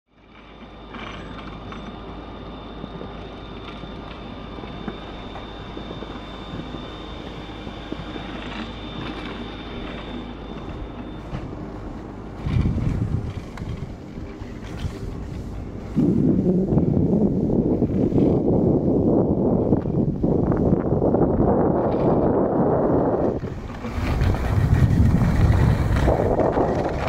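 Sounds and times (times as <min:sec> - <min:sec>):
machinery mechanical rumble: 0:00.1 - 0:27.0
thin high whine: 0:00.1 - 0:27.0.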